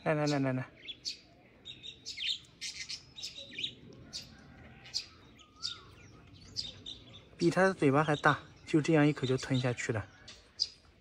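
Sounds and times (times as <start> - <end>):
nestlings high-pitched begging calls: 0.0 - 11.0.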